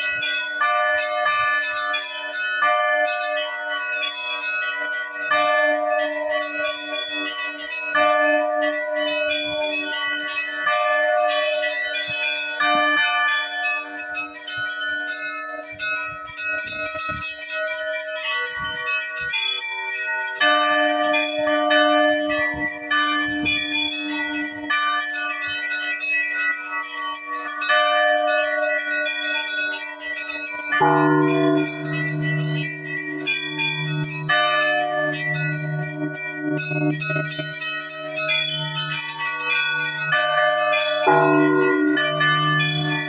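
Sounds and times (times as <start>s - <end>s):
large bells ringing: 0.0s - 43.0s.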